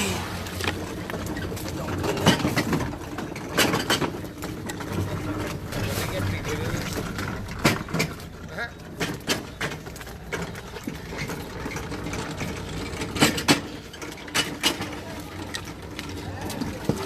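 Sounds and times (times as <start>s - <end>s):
knocks and clatter: 0.5s - 17.0s.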